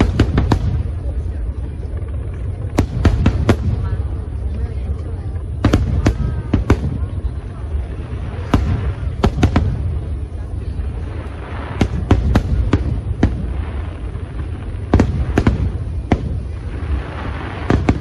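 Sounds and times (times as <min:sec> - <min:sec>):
fireworks bangs: 0:00.0 - 0:18.0
low rumble of fireworks: 0:00.0 - 0:18.0.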